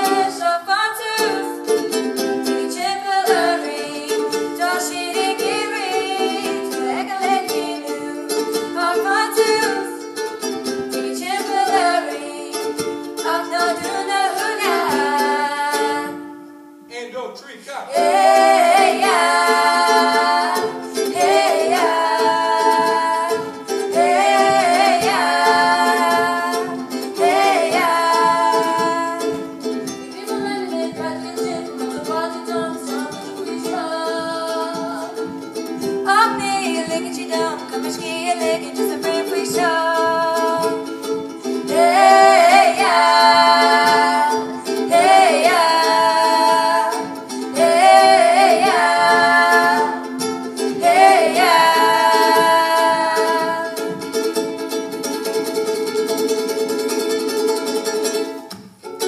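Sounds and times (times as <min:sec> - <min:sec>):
ukulele strumming chords: 0:00.0 - 0:17.3, 0:17.9 - 0:59.0
person singing: 0:00.0 - 0:54.4.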